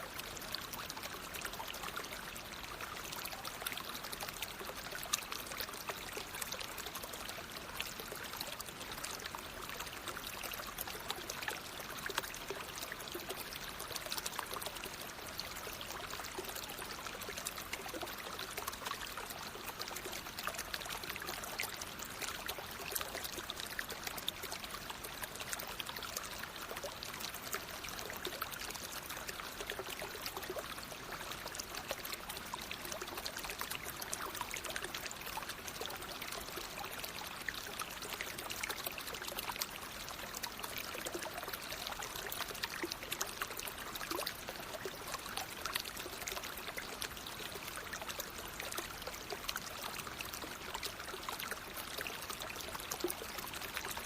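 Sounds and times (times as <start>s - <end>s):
flowing water with splashes: 0.0s - 54.0s.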